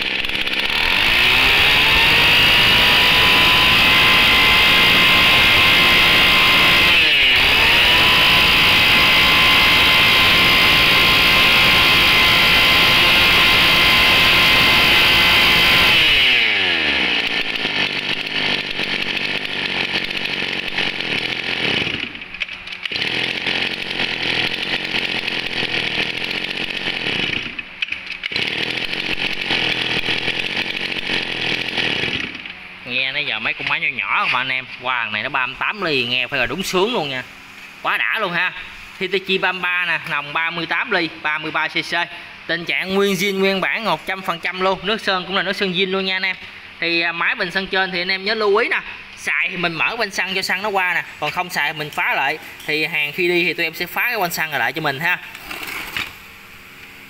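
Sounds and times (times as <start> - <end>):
brush cutter engine revving: 0.0 - 32.7, 33.4 - 46.6, 48.0 - 57.0.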